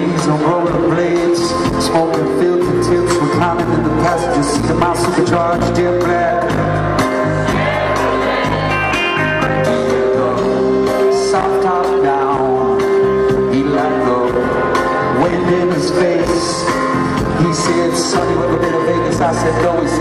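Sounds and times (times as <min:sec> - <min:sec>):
man singing: 0:00.0 - 0:07.2, 0:09.4 - 0:20.0
live band music: 0:00.0 - 0:20.0.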